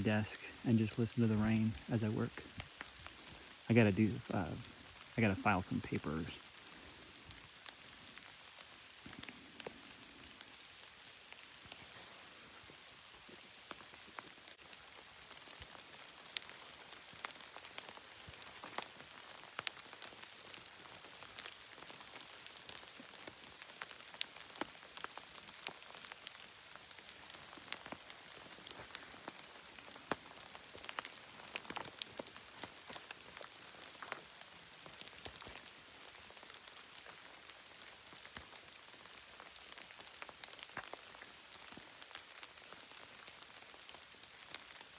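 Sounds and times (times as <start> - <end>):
rain hiss: 0.0 - 44.9
raindrops ticking: 0.0 - 44.9.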